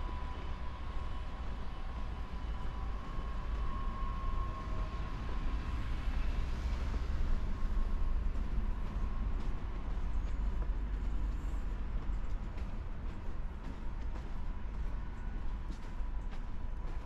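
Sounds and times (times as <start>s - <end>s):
rumble of passing vehicles: 0.0s - 17.0s.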